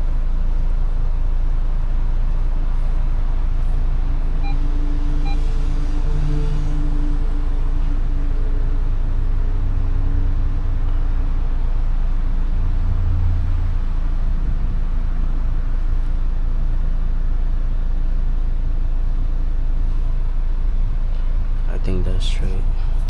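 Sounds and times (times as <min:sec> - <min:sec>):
vehicle low rumble: 0:00.0 - 0:23.0.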